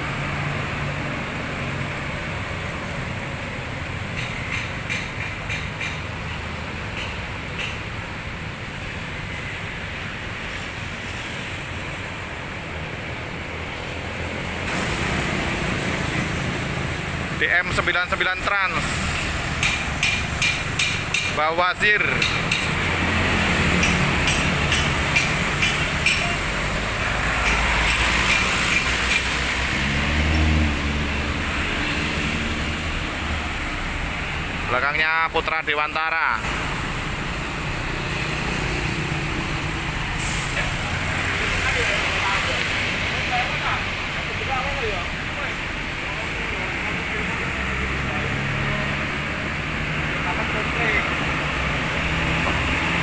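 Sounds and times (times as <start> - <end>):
bus engines rumbling: 0.0 - 53.0.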